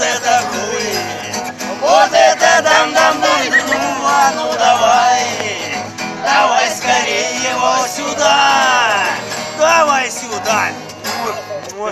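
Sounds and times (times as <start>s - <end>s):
several voices singing: 0.0s - 11.0s
classical guitar strumming: 0.0s - 11.9s.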